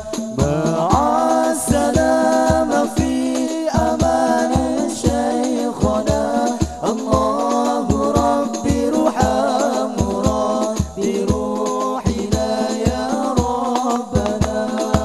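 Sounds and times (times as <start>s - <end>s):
bass drum: 0.0s - 15.0s
man singing: 0.0s - 15.0s.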